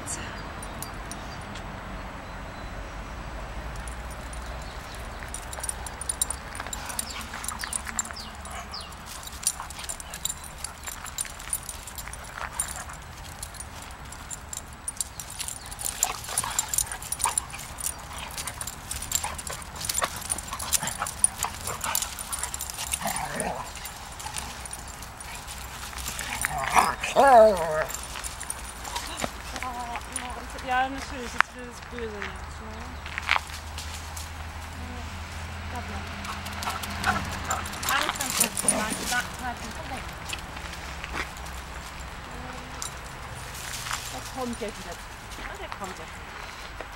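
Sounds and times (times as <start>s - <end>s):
paws scuffling on gravel: 3.9s - 46.9s.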